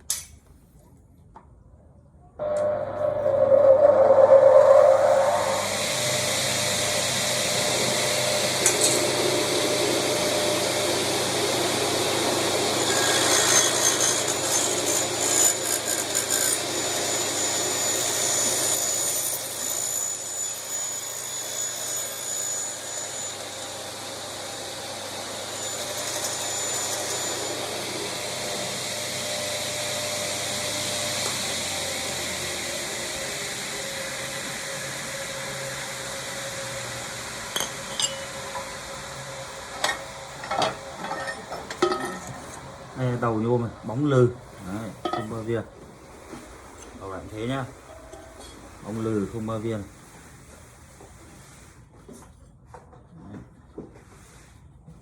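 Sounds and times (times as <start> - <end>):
saw cutting through aluminium: 2.4 - 45.7, 46.4 - 49.9.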